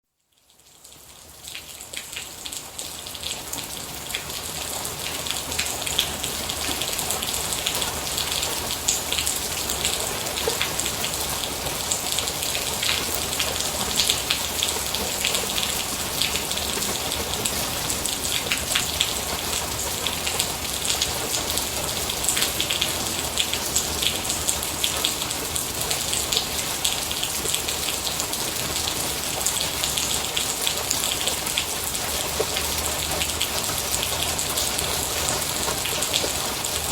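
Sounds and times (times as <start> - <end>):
rain falling: 0.2 - 36.9.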